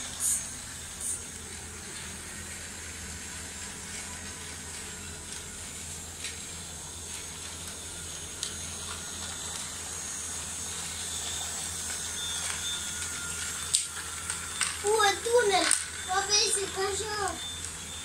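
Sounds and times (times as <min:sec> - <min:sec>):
toy train motor whirring: 0:00.0 - 0:18.0.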